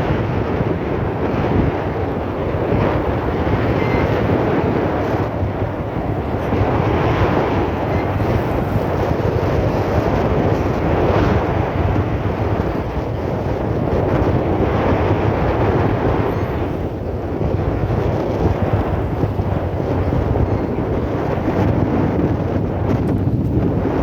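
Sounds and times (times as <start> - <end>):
sea rushing: 0.0 - 24.0
wind buffeting microphone: 0.0 - 24.0.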